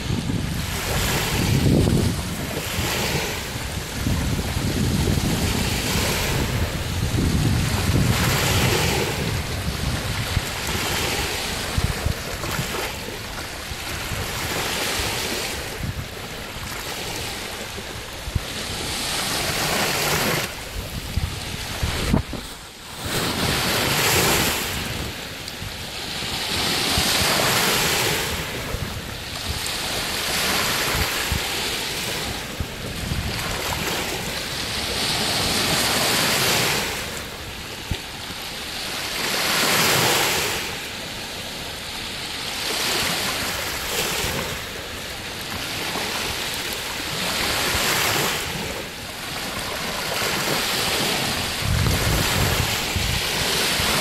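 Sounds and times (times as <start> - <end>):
wind on microphone: 0.0 - 41.0, 41.6 - 54.0
waves washing onto shore: 0.0 - 54.0.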